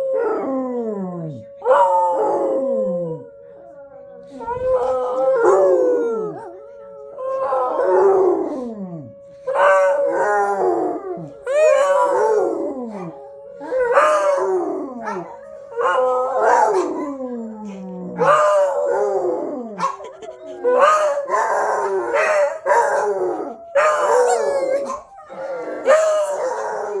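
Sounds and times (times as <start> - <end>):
dog howling: 0.0 - 3.3, 4.3 - 27.0.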